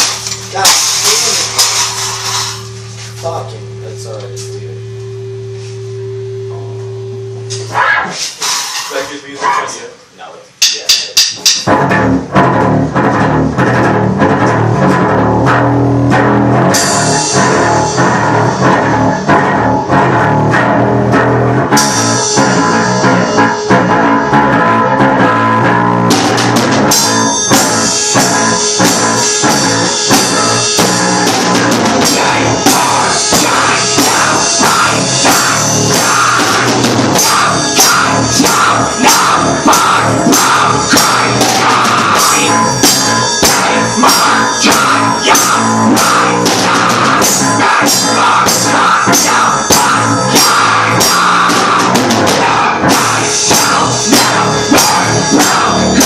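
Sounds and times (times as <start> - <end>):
rock band playing: 0.0 - 9.0, 10.5 - 56.0.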